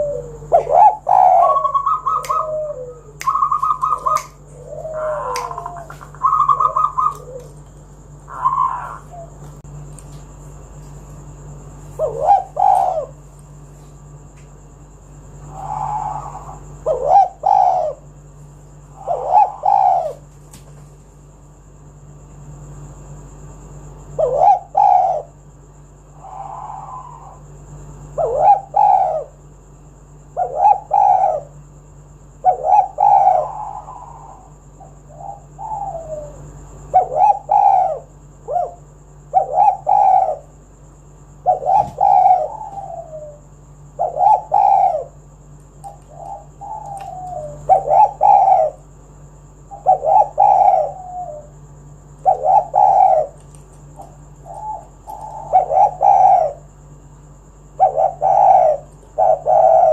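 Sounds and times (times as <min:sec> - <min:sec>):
dove cooing: 0:00.0 - 0:09.7, 0:11.3 - 0:13.3, 0:15.3 - 0:20.3, 0:24.1 - 0:25.5, 0:26.1 - 0:29.5, 0:30.3 - 0:31.7, 0:32.4 - 0:40.6, 0:41.4 - 0:49.0, 0:49.6 - 0:59.9
faint steady hum: 0:00.0 - 0:59.9.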